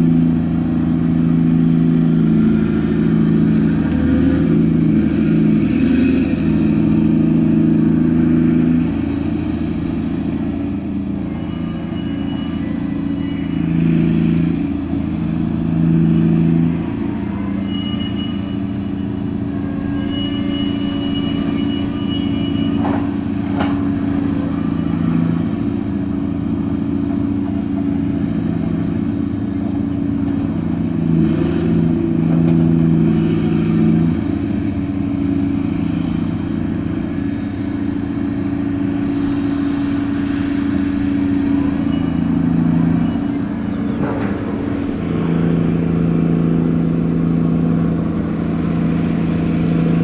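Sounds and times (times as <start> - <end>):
ship engine running: 0.0 - 50.0.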